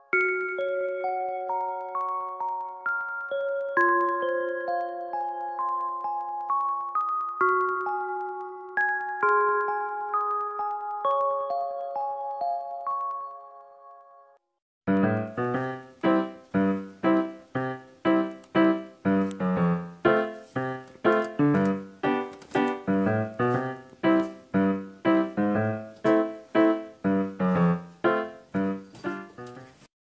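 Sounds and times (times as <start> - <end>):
piano chords: 0.0 - 29.9.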